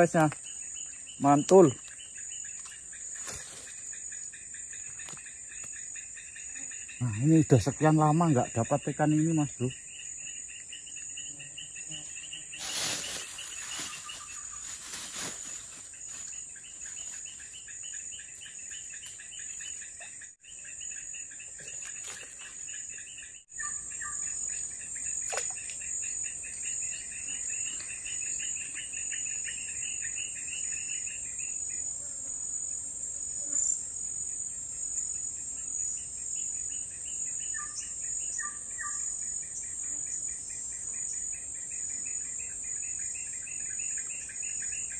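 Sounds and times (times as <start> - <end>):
insect chirping trill: 0.0 - 44.9
insects buzzing: 0.0 - 44.9.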